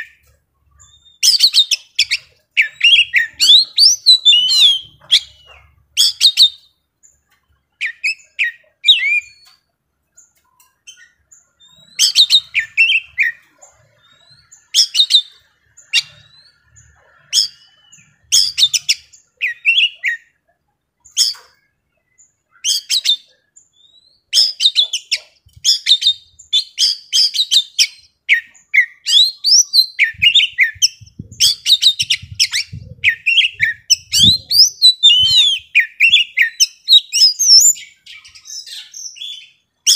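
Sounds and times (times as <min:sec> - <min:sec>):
bird singing whistles and chirps: 0:00.0 - 0:06.8, 0:07.8 - 0:20.4, 0:21.0 - 0:39.9.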